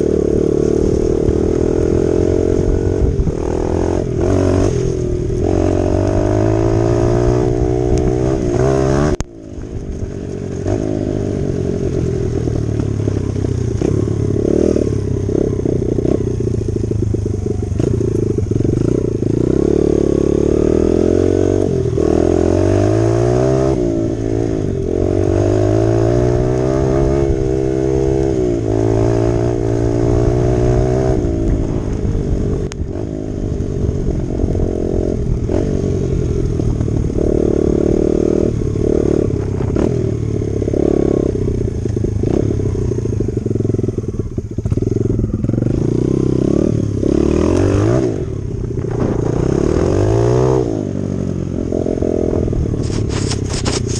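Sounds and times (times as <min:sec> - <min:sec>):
dirt bike engine revving: 0:00.0 - 0:09.2, 0:10.6 - 0:33.5, 0:34.1 - 0:53.9.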